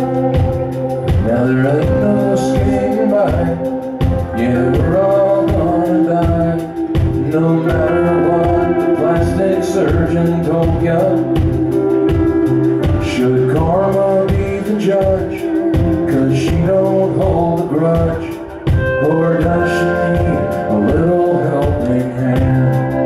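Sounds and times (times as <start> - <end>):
live rock band playing: 0.0 - 23.0
man singing: 0.0 - 23.0.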